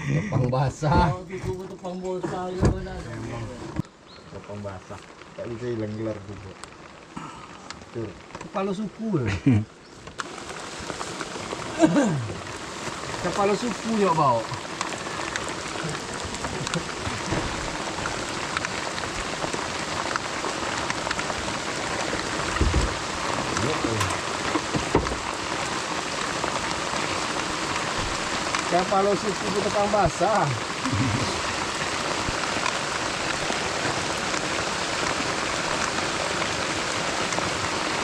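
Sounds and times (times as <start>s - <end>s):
heavy rain hiss: 0.0s - 38.0s
raindrop hits: 0.0s - 38.0s.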